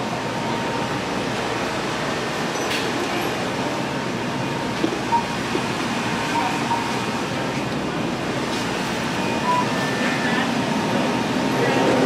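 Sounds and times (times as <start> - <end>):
metro train rail noise: 0.0 - 12.0.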